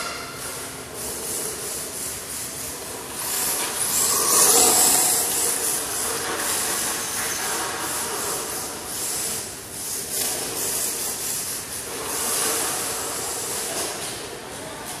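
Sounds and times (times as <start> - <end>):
hard tyres sliding on concrete: 0.2 - 15.0
toy car electric drive hiss: 1.0 - 14.0.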